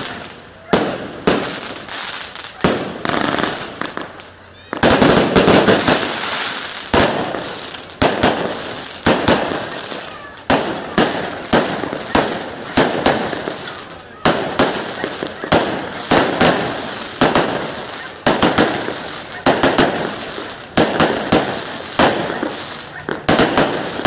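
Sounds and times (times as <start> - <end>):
fireworks shells bursting: 0.0 - 24.0.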